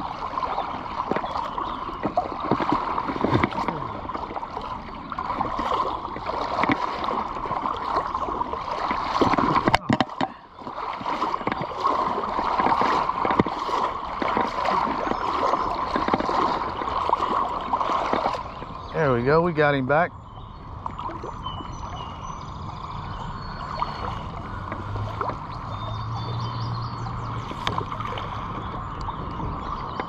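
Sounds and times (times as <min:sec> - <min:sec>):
creek water over rocks: 0:00.0 - 0:30.0
small water splashes: 0:00.0 - 0:30.0.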